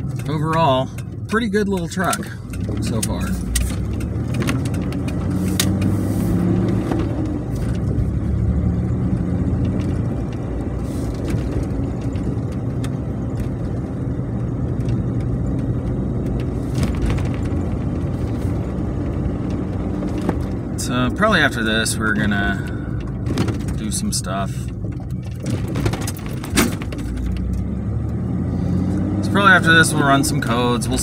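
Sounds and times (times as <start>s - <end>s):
car engine running: 0.0s - 31.0s
road noise: 0.0s - 31.0s.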